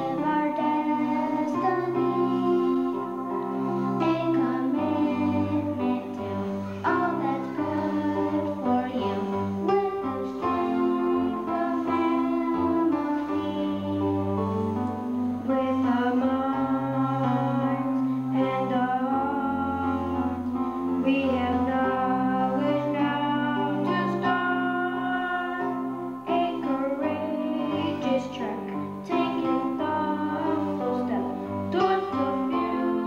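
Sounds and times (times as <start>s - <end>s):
boy singing into microphone: 0.0s - 33.0s
instrumental accompaniment: 0.0s - 33.0s.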